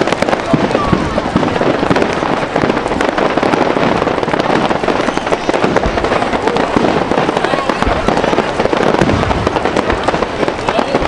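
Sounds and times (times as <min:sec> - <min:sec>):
fireworks crackling pops: 0:00.0 - 0:11.0.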